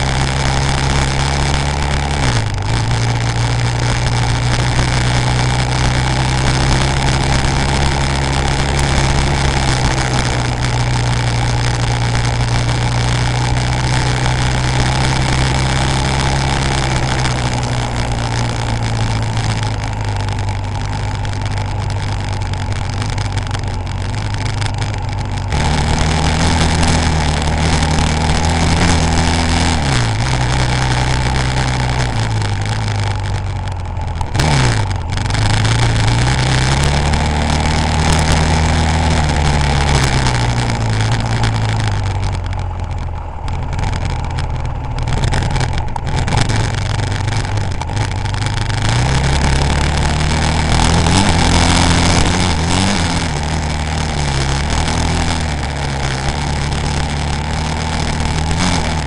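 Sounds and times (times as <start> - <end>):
motorcycle engine revving: 0.0 - 59.0
rushing wind noise: 0.0 - 59.0.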